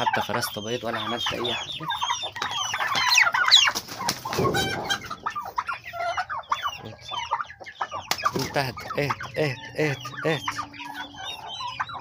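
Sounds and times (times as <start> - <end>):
chickens clucking: 0.0 - 12.0
high chirping calls: 0.0 - 12.0.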